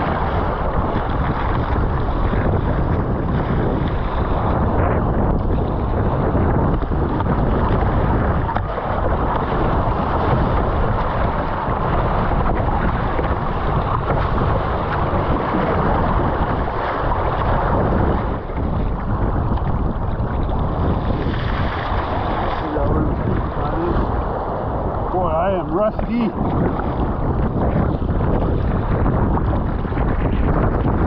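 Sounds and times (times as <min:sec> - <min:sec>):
water rushing and splashing: 0:00.0 - 0:31.0
wind buffeting microphone: 0:00.0 - 0:31.0.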